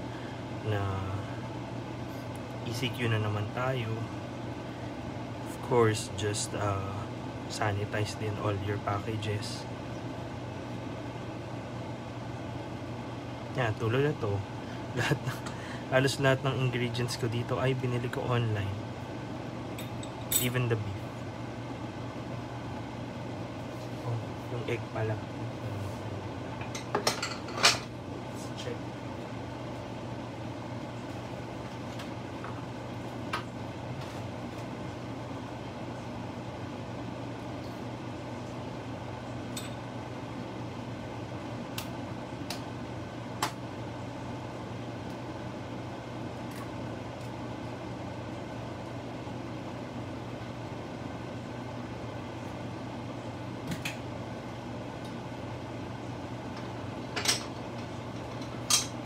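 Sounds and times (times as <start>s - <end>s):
electric cooker hum and fan hiss: 0.0s - 59.0s.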